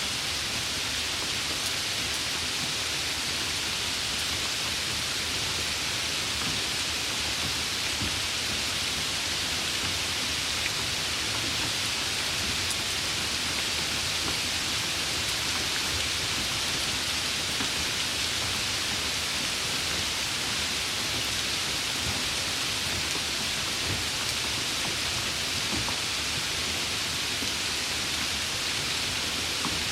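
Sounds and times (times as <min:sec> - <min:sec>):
light rain hissing: 0:00.0 - 0:29.9.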